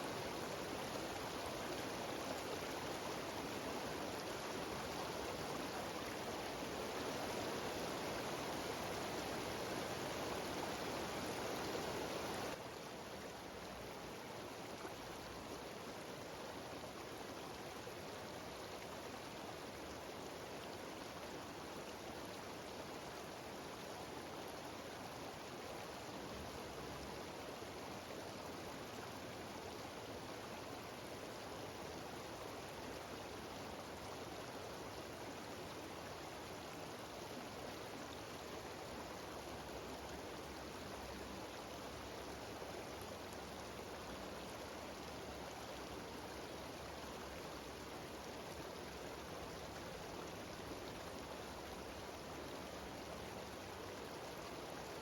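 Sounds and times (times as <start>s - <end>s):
stream rushing over waterfalls: 0.0s - 55.0s.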